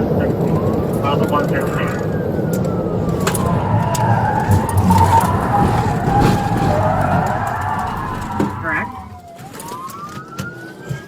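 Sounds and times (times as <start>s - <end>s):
wail siren: 0.1s - 11.0s
car engine and road noise: 0.5s - 9.6s.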